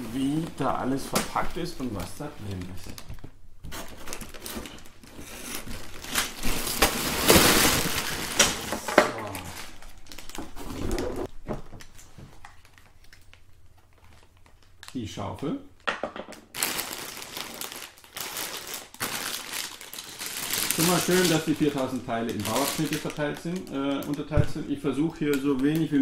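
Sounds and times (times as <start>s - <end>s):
packaging crinkling and rustling: 0.0s - 15.2s, 16.4s - 26.0s.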